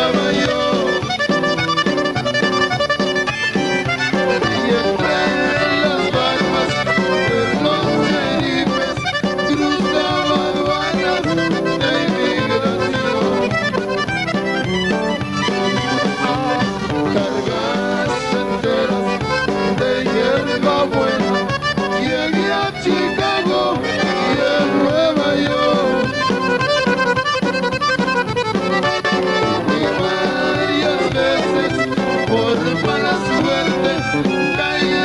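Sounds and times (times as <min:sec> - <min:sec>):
accordion: 0:00.0 - 0:35.0
live band playing: 0:00.0 - 0:35.0.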